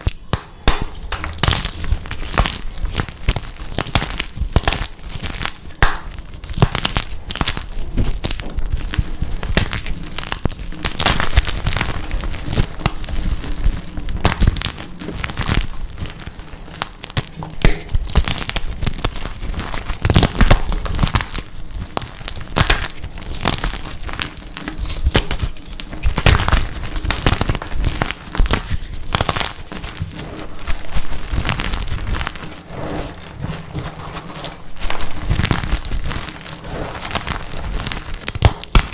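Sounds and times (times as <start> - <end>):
chalk blocks being crushed: 0.0 - 38.9.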